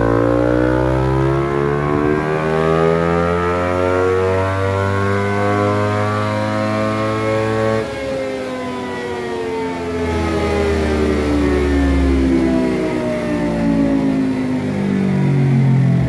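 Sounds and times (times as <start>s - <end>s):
motorcycle engine at full throttle: 0.0s - 8.5s, 9.8s - 16.0s.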